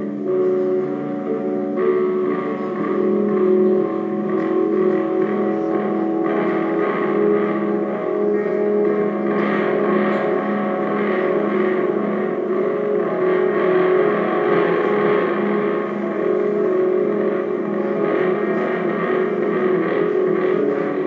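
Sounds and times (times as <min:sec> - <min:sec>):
low pulsing note: 0:00.0 - 0:21.0
psychedelic band drone: 0:00.0 - 0:21.0.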